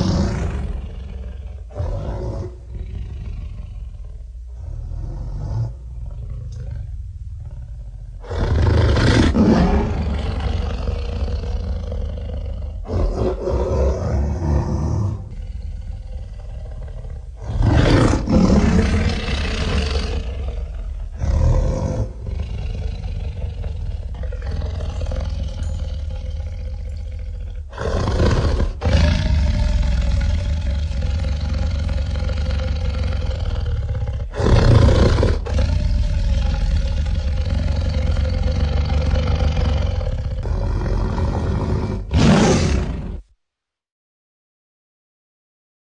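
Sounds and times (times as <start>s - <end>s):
continuous low rumble: 0.0s - 41.2s
deep creature roars: 0.0s - 43.3s.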